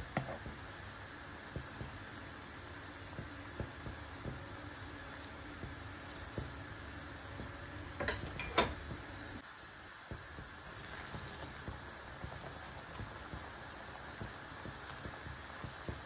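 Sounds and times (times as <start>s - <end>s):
syrup boiling and bubbling: 0.0s - 16.0s.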